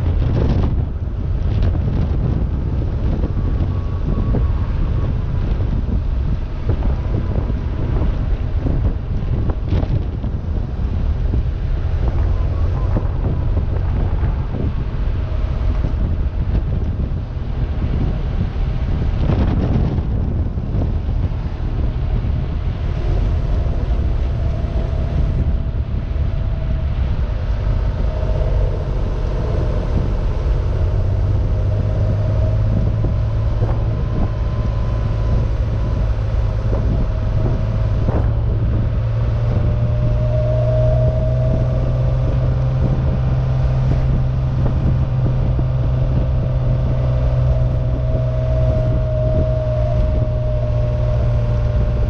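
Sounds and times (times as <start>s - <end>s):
car engine droning: 0.0s - 52.0s
wind rushing past: 0.0s - 52.0s.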